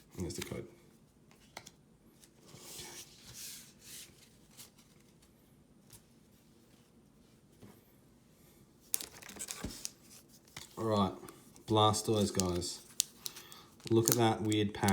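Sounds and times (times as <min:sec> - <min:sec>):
rustling of cards and wrapping: 0:01.3 - 0:07.6, 0:08.8 - 0:14.9.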